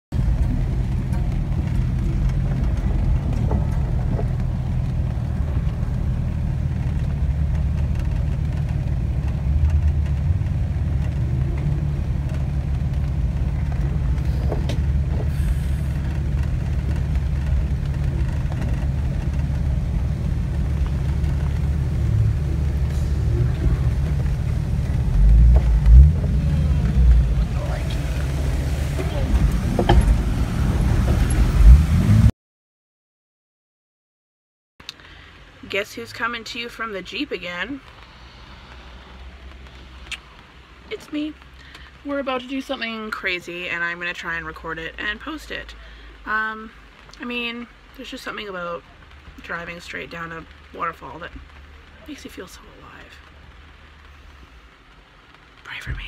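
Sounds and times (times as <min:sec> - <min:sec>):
engine low rumble: 0:00.1 - 0:32.3, 0:34.8 - 0:56.0.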